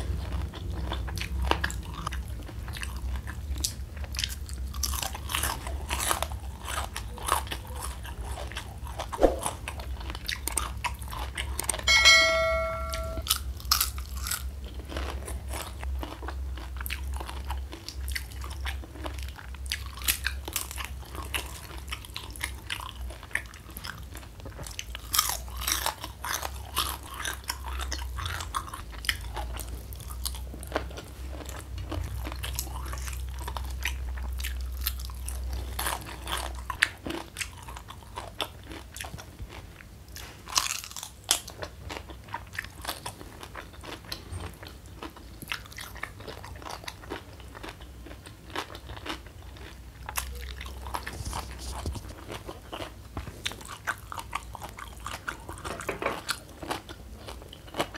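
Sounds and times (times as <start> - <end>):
chewing crispy food: 0.0 - 11.9, 13.3 - 57.9.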